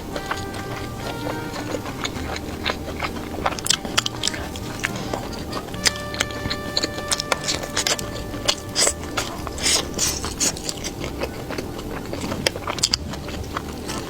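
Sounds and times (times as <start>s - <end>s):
crunching crispy fried food: 0.0s - 14.0s.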